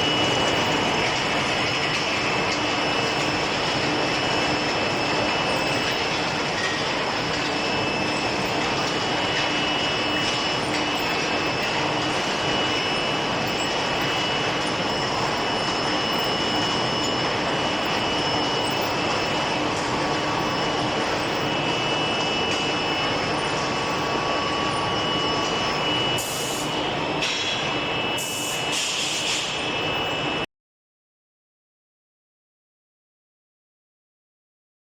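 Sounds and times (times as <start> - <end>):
machinery rushing noise: 0.0 - 29.8
high-pitched machine whine: 0.0 - 30.5.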